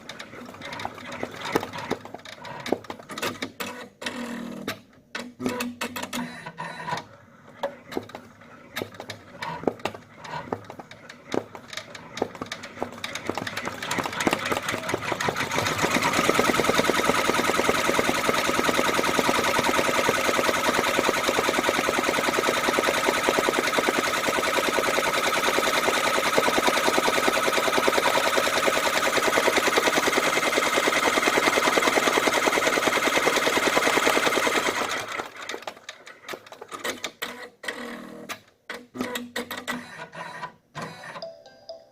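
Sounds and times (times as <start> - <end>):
embroidery machine stitching: 0.0 - 4.4, 7.9 - 40.5.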